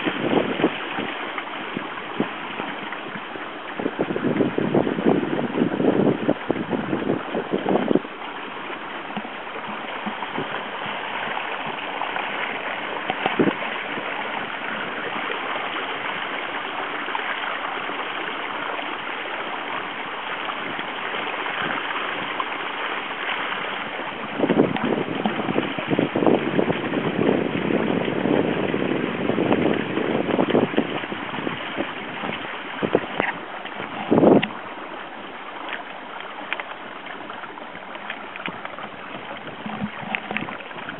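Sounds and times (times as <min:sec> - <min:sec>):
wind buffeting microphone: 0:00.0 - 0:16.4, 0:23.1 - 0:35.6, 0:36.8 - 0:40.9
water rushing along boat hull: 0:00.0 - 0:40.9.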